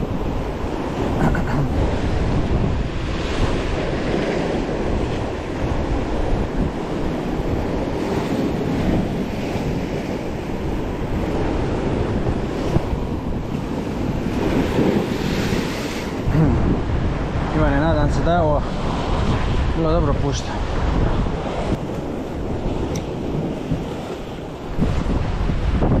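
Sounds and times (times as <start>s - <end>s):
waves washing against rocks: 0.0s - 26.0s
wind buffeting microphone: 0.0s - 26.0s.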